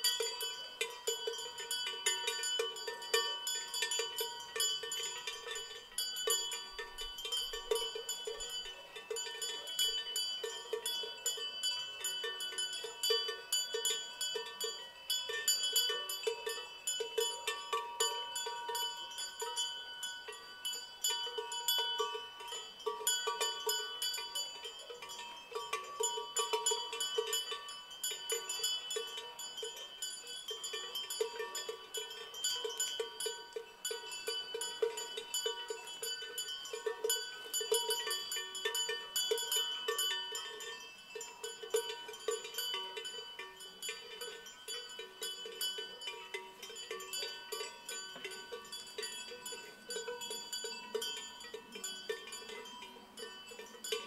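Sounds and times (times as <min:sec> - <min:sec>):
cowbells clanking: 0:00.0 - 0:54.0.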